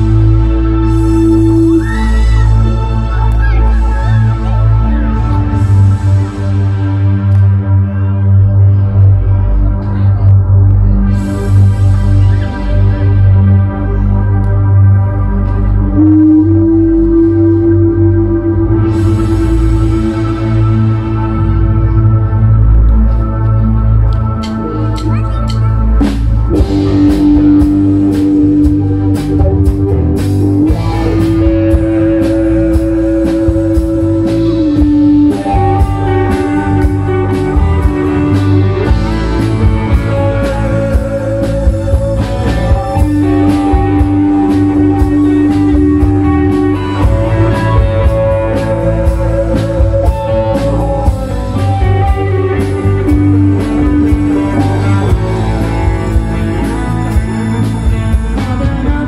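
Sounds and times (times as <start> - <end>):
drums: 0.0 - 59.0
electric guitars: 0.0 - 59.0
keyboard: 0.0 - 59.0.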